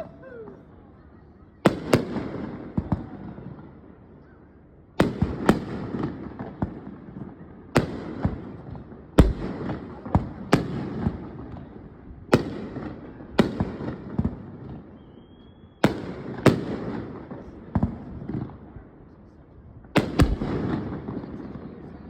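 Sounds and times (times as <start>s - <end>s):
fireworks bangs with echo: 1.6s - 3.8s, 5.0s - 18.7s, 19.9s - 22.0s.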